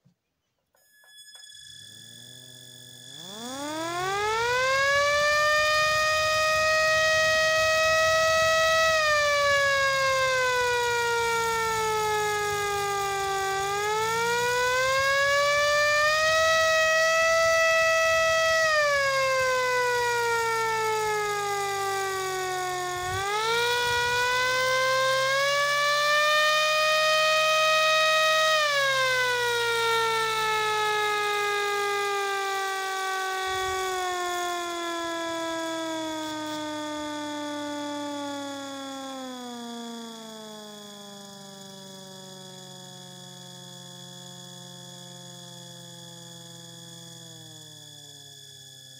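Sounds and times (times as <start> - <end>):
motor-driven siren wailing: 1.0 - 48.9.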